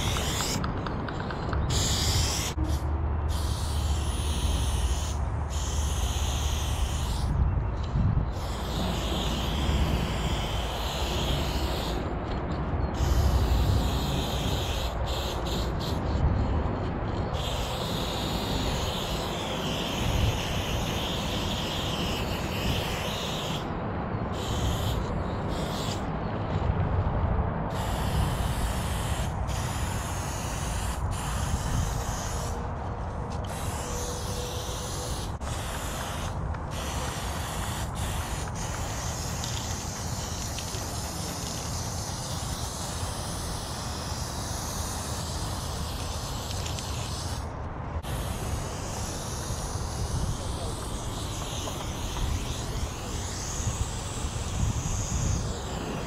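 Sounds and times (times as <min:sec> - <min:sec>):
spray paint can hissing: 0:00.0 - 0:23.7, 0:24.3 - 0:26.6, 0:27.7 - 0:56.0.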